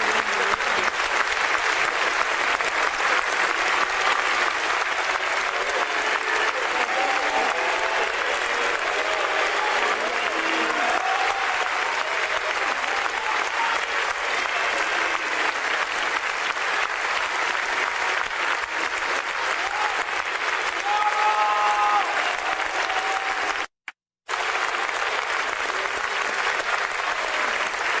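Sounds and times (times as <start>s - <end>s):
audience calls: 0.0s - 23.7s, 24.3s - 28.0s
audience applauding: 0.0s - 28.0s.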